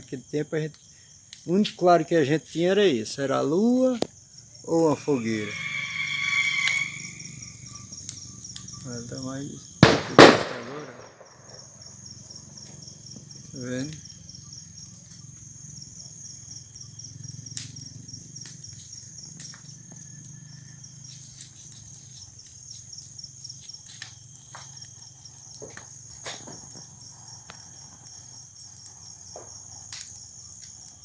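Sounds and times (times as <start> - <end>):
bonfire crackling and popping: 0.0 - 31.0
crickets chirring: 0.0 - 31.0.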